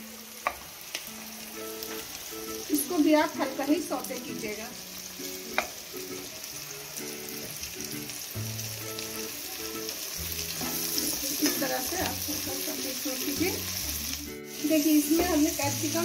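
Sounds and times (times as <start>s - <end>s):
soft background music: 0.0s - 16.0s
vegetables sizzling in hot oil: 0.0s - 16.0s.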